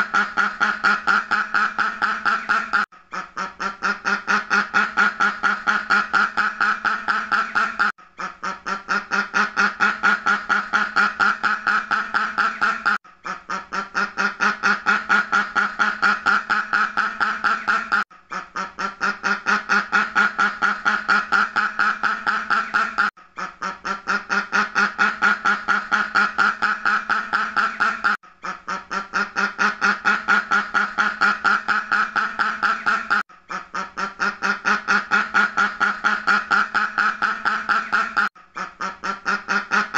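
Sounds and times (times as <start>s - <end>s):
duck quacking rapidly: 0.0s - 39.9s.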